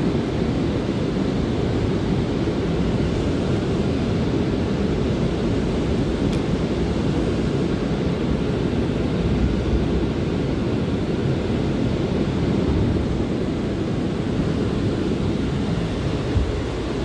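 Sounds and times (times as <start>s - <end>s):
subway car rumbling on rails: 0.0s - 17.0s.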